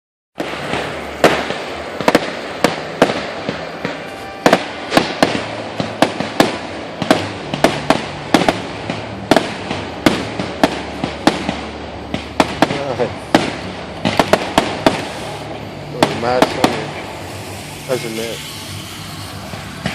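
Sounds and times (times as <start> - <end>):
fireworks bangs: 0.4 - 19.9.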